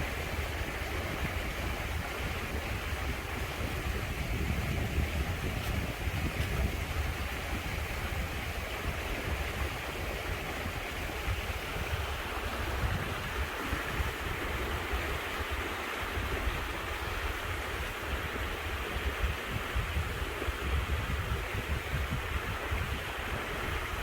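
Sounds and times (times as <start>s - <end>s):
creek flowing: 0.0s - 24.0s
wind buffeting microphone: 0.0s - 24.0s.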